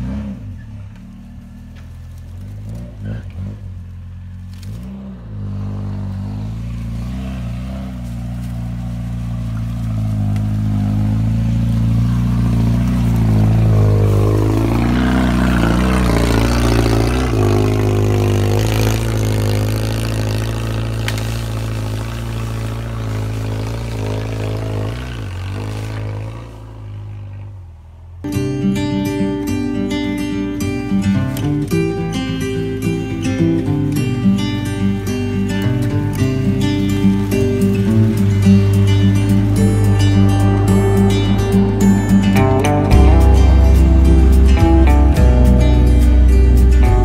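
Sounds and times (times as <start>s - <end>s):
off-road vehicle engine under load: 0.0s - 47.0s
tyres crunching through dry leaves: 0.0s - 47.0s.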